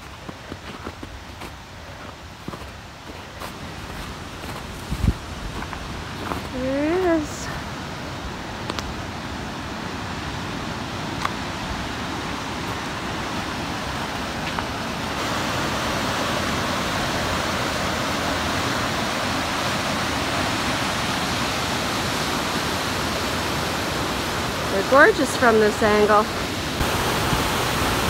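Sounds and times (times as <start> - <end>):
waterfall rushing: 2.8 - 28.0.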